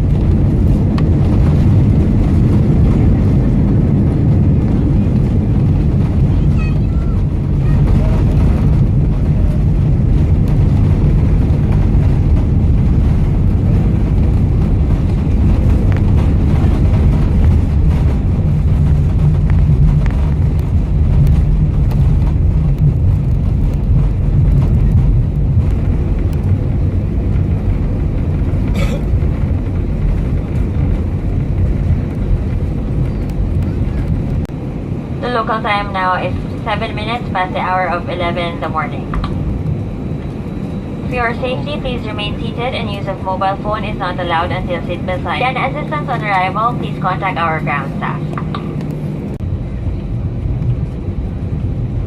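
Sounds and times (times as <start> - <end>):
aircraft engines rumbling: 0.0 - 52.0.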